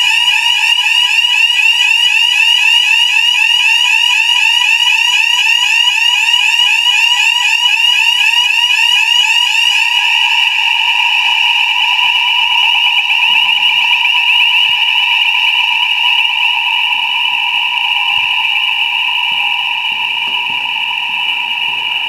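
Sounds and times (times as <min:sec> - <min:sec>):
fire alarm sounder: 0:00.0 - 0:22.0.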